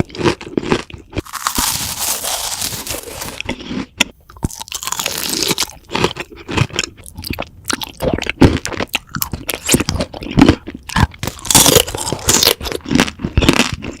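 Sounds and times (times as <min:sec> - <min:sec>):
crunchy chewing and biting: 0:00.0 - 0:14.0.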